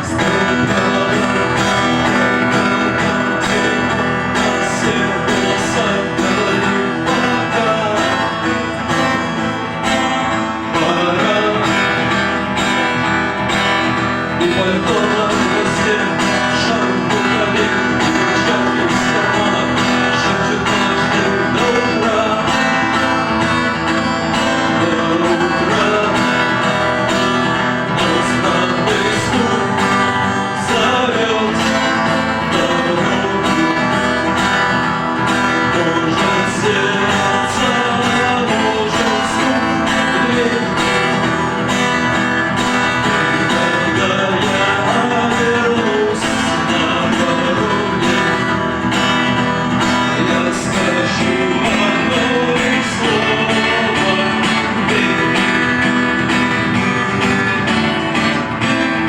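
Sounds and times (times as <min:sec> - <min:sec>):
live rock song: 0:00.0 - 0:59.0
person singing: 0:00.0 - 0:59.0
strummed guitar: 0:00.0 - 0:59.0.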